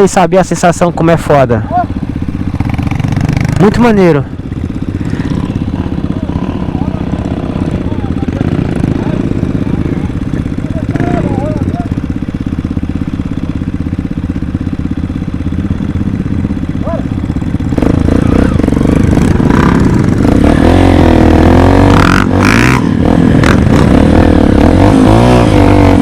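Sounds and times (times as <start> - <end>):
dirt bike engine idling and revving: 0.0 - 26.0.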